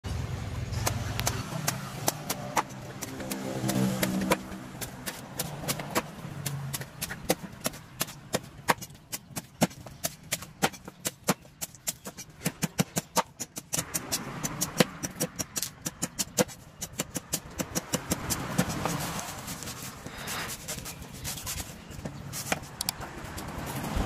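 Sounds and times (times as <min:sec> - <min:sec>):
machete chopping coconut husk: 0:00.7 - 0:22.7.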